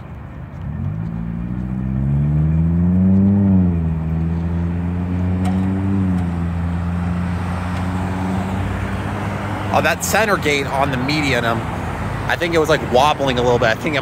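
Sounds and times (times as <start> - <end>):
traffic moving off: 0.0 - 14.0
vehicle engine pulling away: 0.5 - 14.0.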